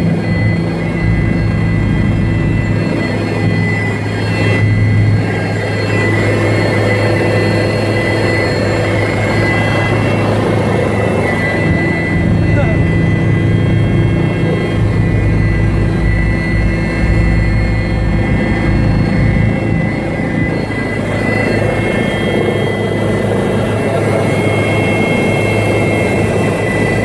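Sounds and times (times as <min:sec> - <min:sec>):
helicopter engine and rotor drone: 0:00.0 - 0:27.0
high whine: 0:00.0 - 0:27.0.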